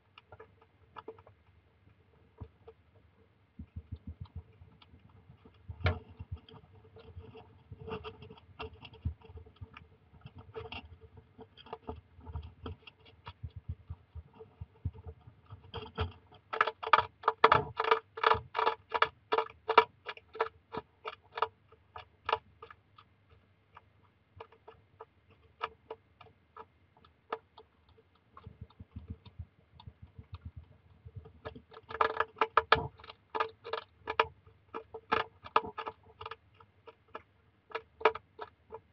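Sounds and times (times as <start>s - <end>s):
hedgehog crunching dry kibble: 0.0s - 38.9s.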